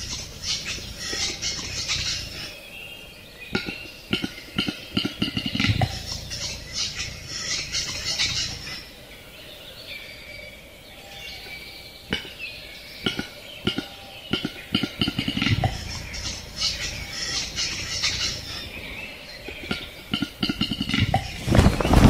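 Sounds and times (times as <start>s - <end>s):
bird display song: 0.0s - 22.0s.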